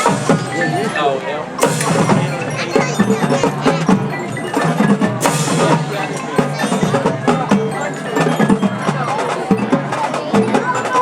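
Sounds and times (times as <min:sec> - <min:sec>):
drum strikes: 0:00.0 - 0:11.0
mallet instruments: 0:00.0 - 0:11.0
marching band playing: 0:00.0 - 0:11.0.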